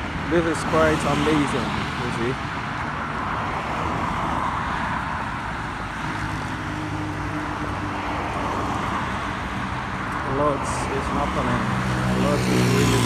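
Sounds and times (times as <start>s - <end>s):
motorway traffic rushing: 0.0s - 13.0s.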